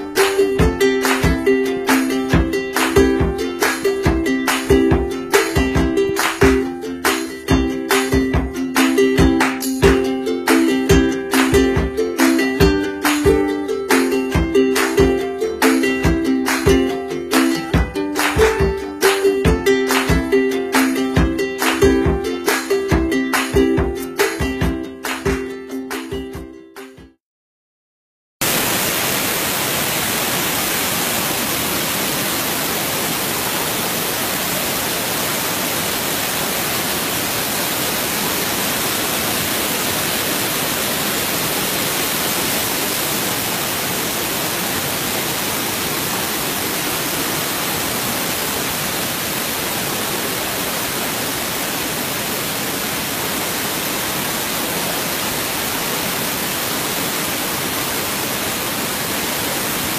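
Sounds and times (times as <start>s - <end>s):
waterfall rushing: 0.0s - 26.3s, 28.4s - 59.9s.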